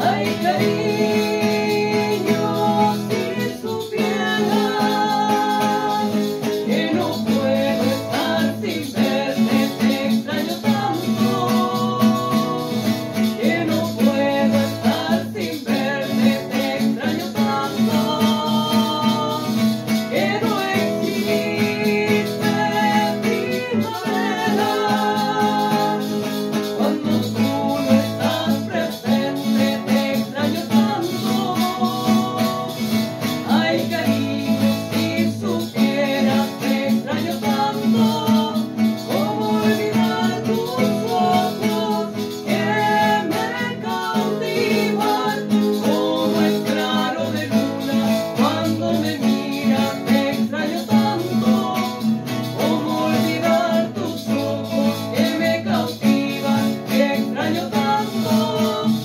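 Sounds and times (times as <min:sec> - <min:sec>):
strummed classical guitars: 0:00.0 - 0:59.0
women singing together: 0:00.0 - 0:59.0.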